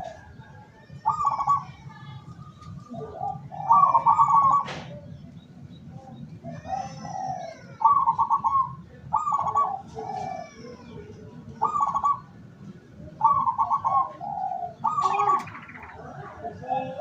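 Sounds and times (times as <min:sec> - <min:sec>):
dove cooing: 0:00.0 - 0:05.3, 0:06.4 - 0:17.0.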